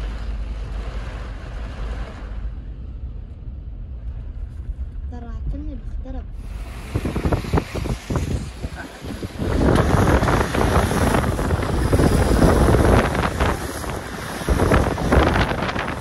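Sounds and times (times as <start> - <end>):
gusty wind buffeting microphone: 0.0 - 16.0.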